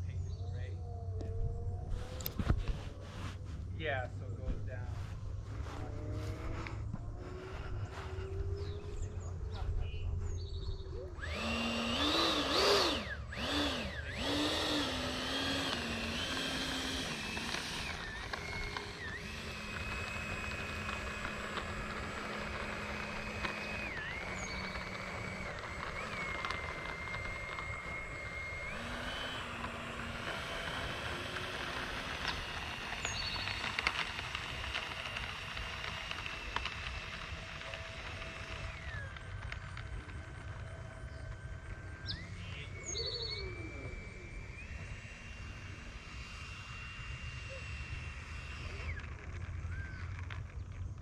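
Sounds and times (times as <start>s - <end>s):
electric ducted fan whining: 0.0s - 51.0s.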